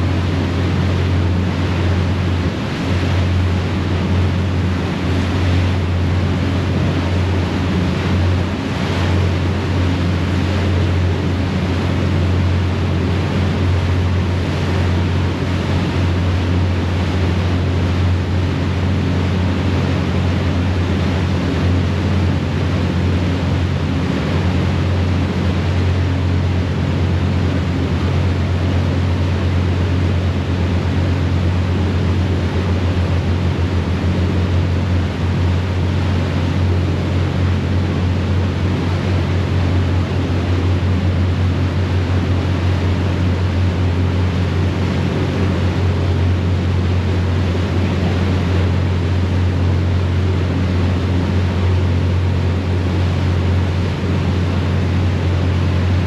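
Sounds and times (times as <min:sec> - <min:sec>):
rushing wake water: 0:00.0 - 0:56.0.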